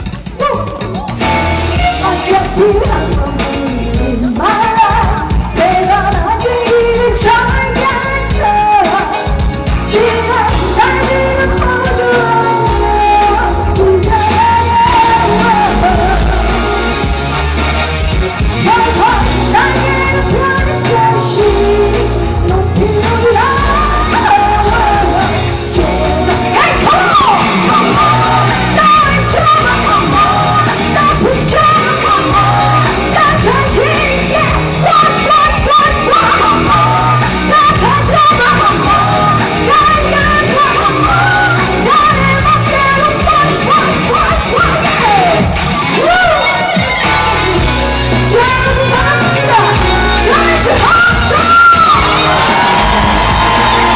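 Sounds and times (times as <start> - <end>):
live pop-rock band playing: 0.0 - 53.9
person singing: 0.0 - 53.9.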